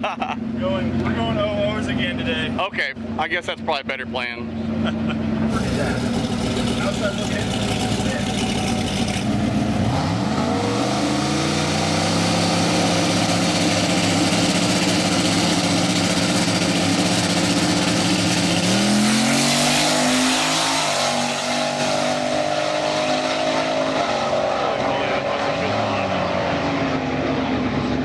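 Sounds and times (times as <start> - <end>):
racing car engine at full throttle: 0.0 - 28.0.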